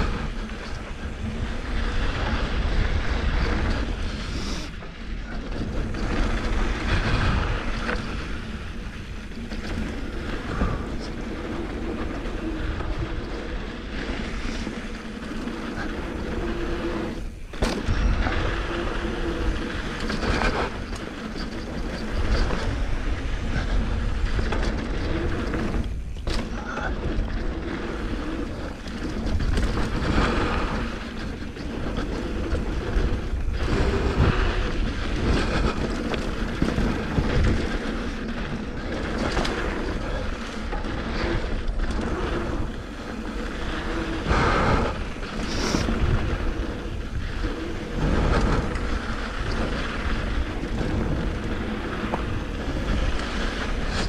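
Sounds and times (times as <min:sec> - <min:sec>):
bike rattling over rocks: 0:00.0 - 0:54.0.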